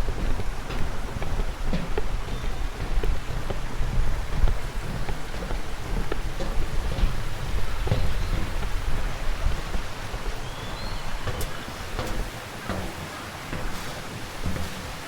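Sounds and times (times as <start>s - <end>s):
falling water rushing: 0.0s - 15.0s.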